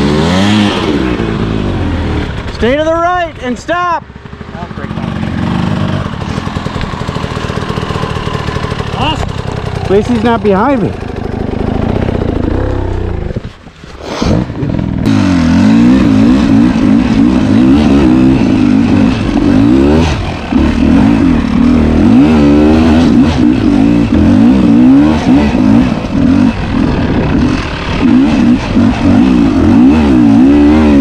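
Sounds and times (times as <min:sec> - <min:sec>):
two-stroke dirt bike engine revving: 0:00.0 - 0:13.4, 0:14.4 - 0:31.0.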